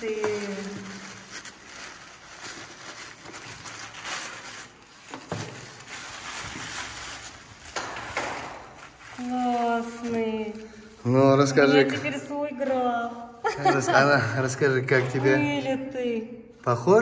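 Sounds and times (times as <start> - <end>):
plastic wrapping crinkling: 0.0 - 14.6.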